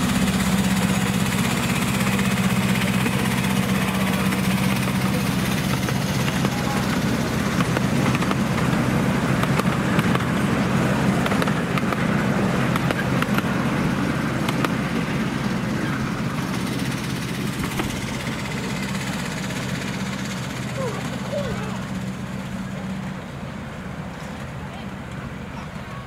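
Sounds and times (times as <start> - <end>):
miniature train mechanical hum: 0.0 - 26.0
wheels clicking on track: 0.0 - 26.0.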